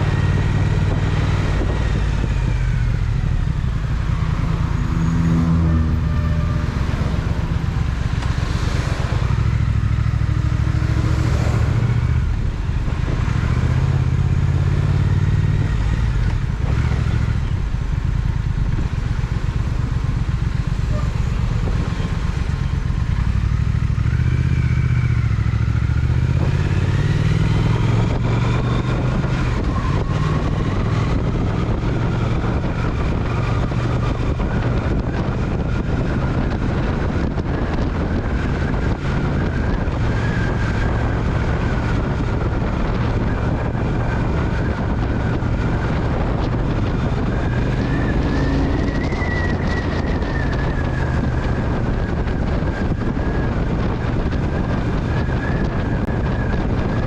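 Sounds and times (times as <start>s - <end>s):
motorcycle engine running: 0.0s - 5.1s, 6.1s - 57.0s
road and wind noise: 0.0s - 57.0s.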